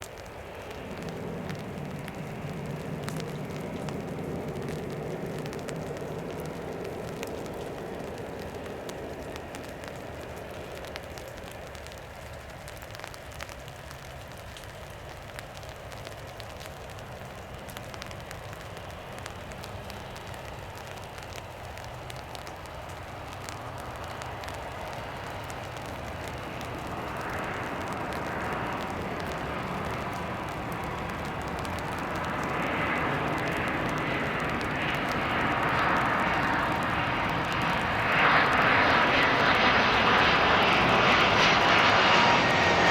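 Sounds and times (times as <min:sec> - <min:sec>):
jet engines rushing: 0:00.0 - 0:13.5, 0:15.8 - 0:42.9.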